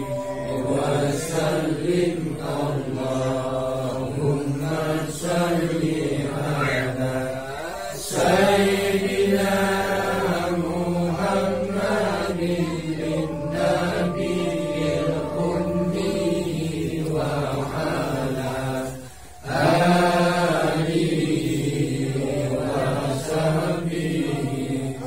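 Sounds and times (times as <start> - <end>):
men chanting prayers: 0.0 - 25.0.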